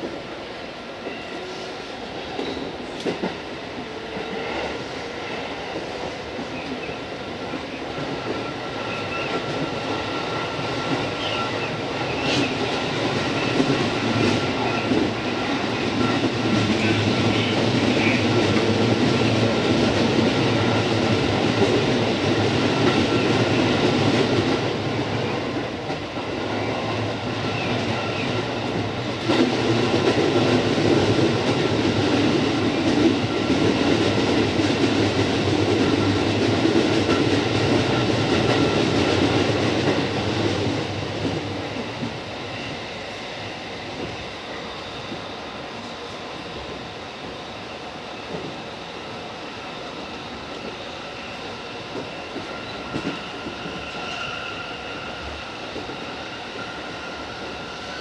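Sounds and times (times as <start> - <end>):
electric train wheel-on-rail noise: 0.0 - 58.0.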